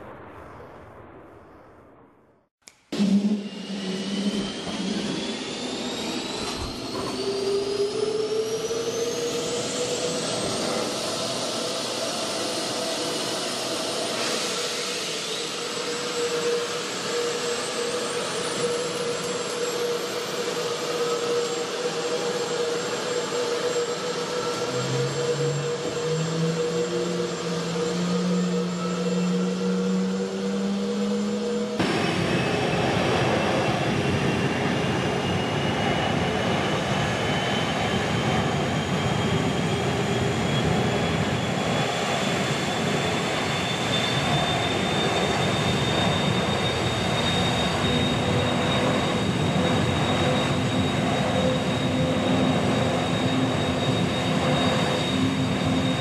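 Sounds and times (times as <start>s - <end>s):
aircraft engine rush and whine: 0.0s - 56.0s.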